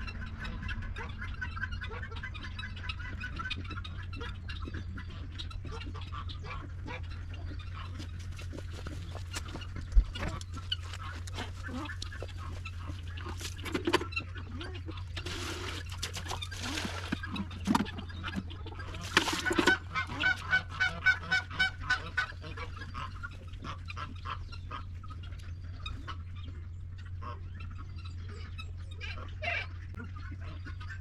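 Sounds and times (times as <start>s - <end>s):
geese honking: 0.0s - 31.0s
steady low hum: 0.0s - 31.0s.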